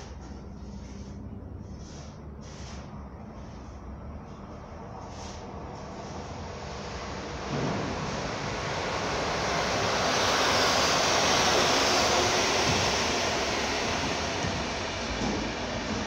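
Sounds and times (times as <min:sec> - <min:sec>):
train passing: 0:01.7 - 0:16.0.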